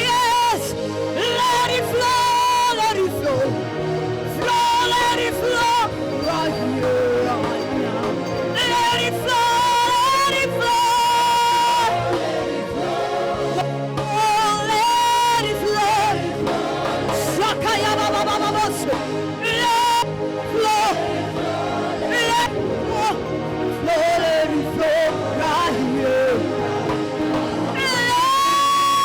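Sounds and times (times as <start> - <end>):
singer with vibrato: 0.0 - 29.0
band accompaniment: 2.0 - 29.0.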